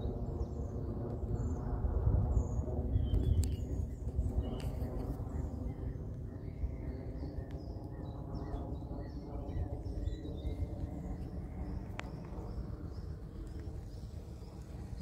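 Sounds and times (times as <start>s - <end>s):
jet airliner rumble: 0.0s - 15.0s
small birds chirping: 2.4s - 15.0s.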